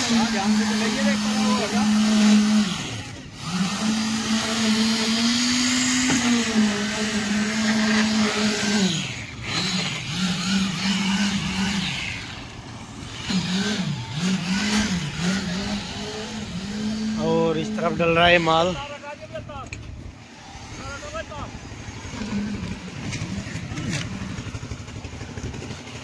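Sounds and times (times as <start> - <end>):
concrete vibrator motor hum: 0.0 - 26.0.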